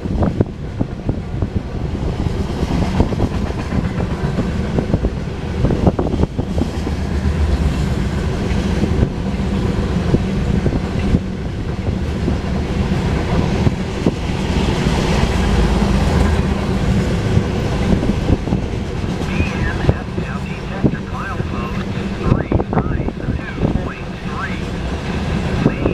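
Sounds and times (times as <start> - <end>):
freight train rolling past: 0.0 - 25.9.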